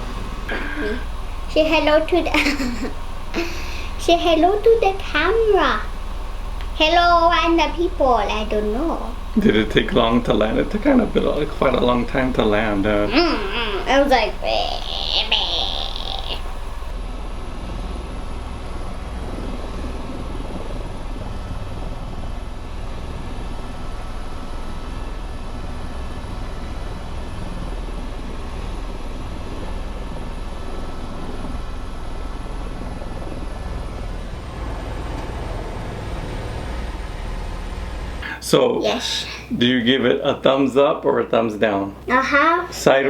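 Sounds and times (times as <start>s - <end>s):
helicopter running: 0.0s - 40.2s.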